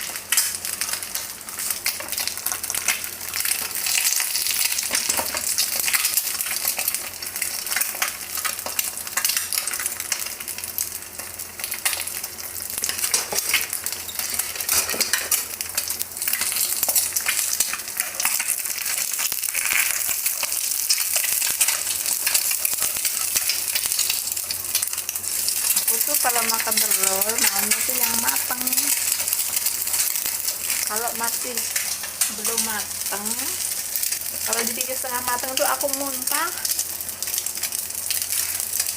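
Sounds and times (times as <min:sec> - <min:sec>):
egg sizzling in hot oil: 0:00.0 - 0:38.9.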